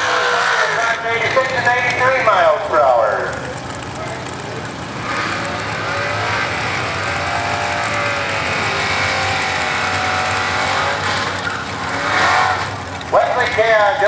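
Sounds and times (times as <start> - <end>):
drag racing car engine: 0.0 - 14.0.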